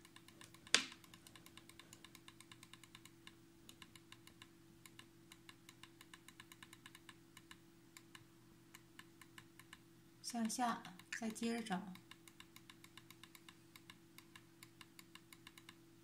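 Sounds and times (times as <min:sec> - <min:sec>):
computer mouse clicking: 0:00.0 - 0:09.8, 0:10.4 - 0:15.8
faint steady hum: 0:00.0 - 0:16.0.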